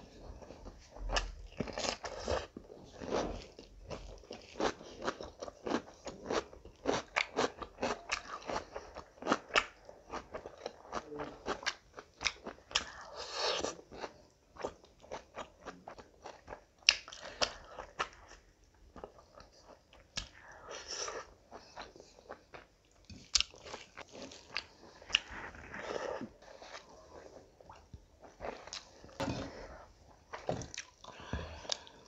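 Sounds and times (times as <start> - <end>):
close chewing with crunchy clicks: 0.4 - 29.4, 30.1 - 32.0.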